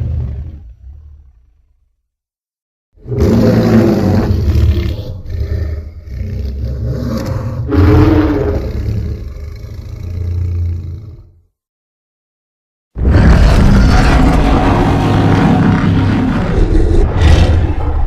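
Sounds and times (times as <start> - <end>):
deep monster roar: 0.0 - 1.4, 3.0 - 11.4, 13.0 - 18.0.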